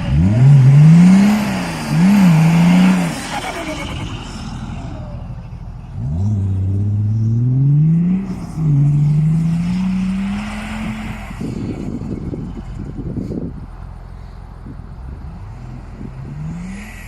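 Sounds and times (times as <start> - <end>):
diesel engine accelerating hard: 0.0 - 17.0.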